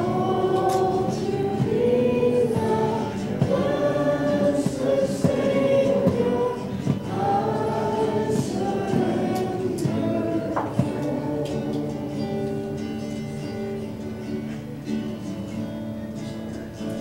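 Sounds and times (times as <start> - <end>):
congregation singing a hymn: 0.0 - 14.6.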